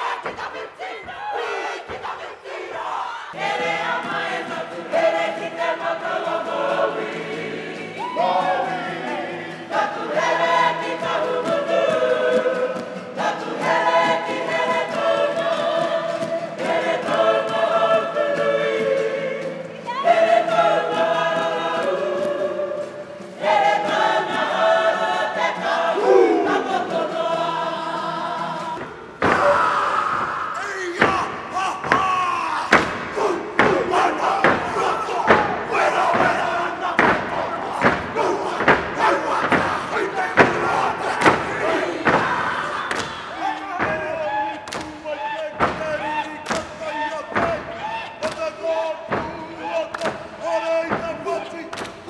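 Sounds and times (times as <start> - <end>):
group singing choral song: 0.0 - 52.0.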